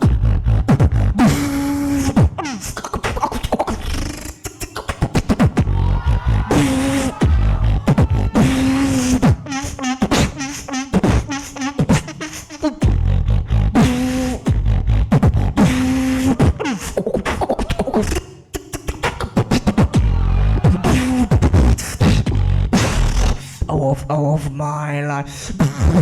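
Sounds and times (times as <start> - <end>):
beatboxing: 0.0 - 24.0, 25.5 - 26.0.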